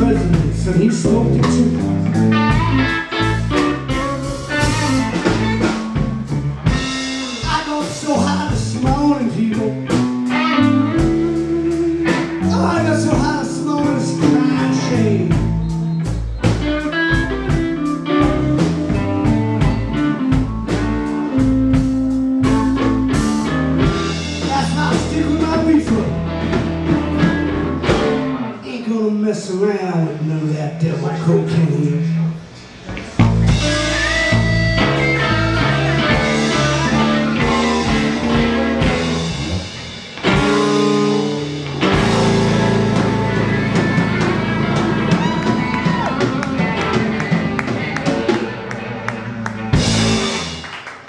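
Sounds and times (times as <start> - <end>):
live blues band: 0.0 - 51.0.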